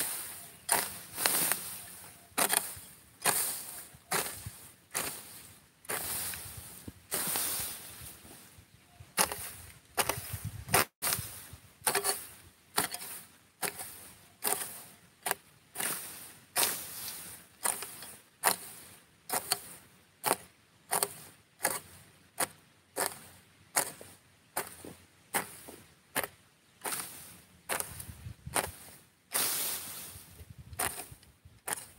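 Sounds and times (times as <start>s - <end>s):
hoe chopping and scraping soil: 0.0s - 8.5s, 9.1s - 31.9s.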